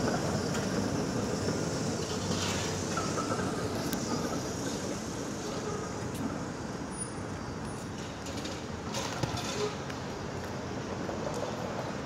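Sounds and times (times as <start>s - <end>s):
streetcar rumbling on tracks: 0.0s - 12.0s.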